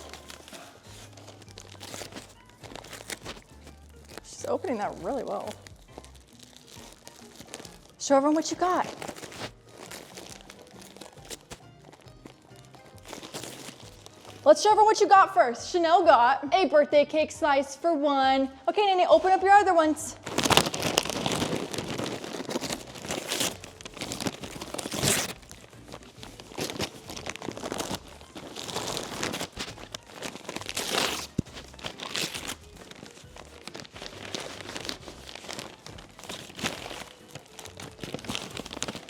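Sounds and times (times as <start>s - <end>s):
paper crinkling and tearing: 0.0s - 14.8s, 20.1s - 39.0s.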